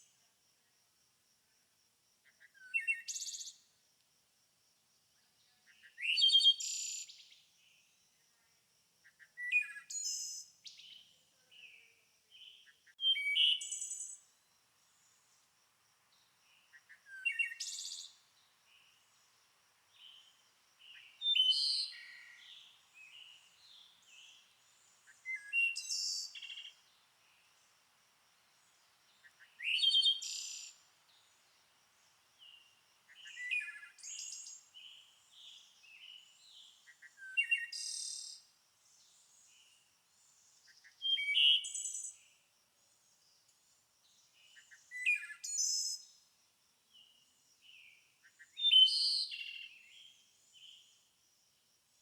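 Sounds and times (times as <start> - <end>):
quiet bird chirps: 0.0 - 3.8, 4.9 - 52.0
songbird singing loud phrases: 2.2 - 3.7, 5.2 - 15.4, 16.0 - 42.4, 44.1 - 46.2, 46.9 - 51.1.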